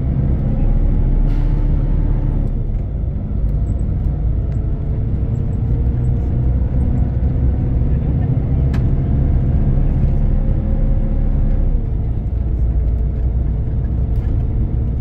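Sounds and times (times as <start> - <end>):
bus diesel engine droning: 0.0 - 15.0.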